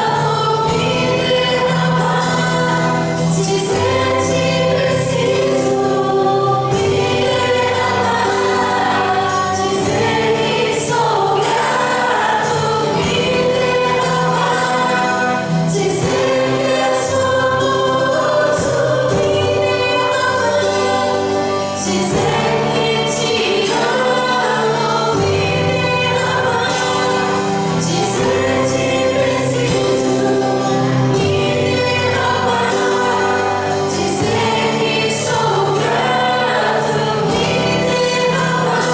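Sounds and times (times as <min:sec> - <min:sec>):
group singing worship song: 0:00.0 - 0:38.9
instrumental backing: 0:00.0 - 0:38.9.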